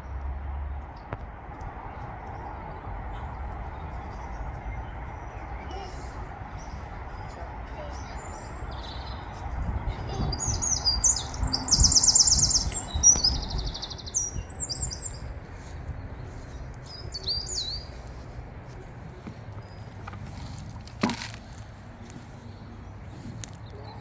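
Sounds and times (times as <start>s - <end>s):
songbird chirping and trilling: 1.5s - 24.0s.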